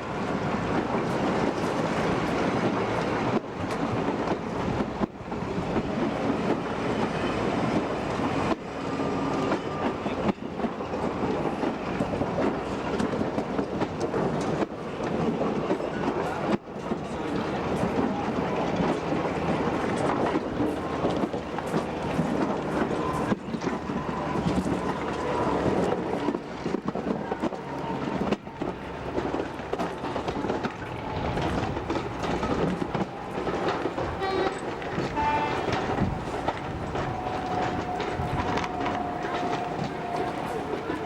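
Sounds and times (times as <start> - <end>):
train running: 0.0 - 41.0
wheels clicking over rail joints: 0.0 - 41.0.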